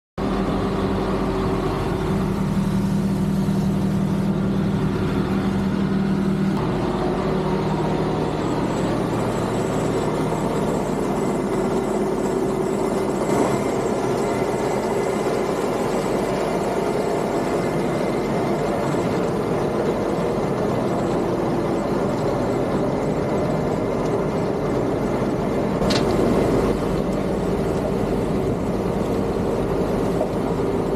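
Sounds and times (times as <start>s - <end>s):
tractor engines droning: 0.2s - 30.9s.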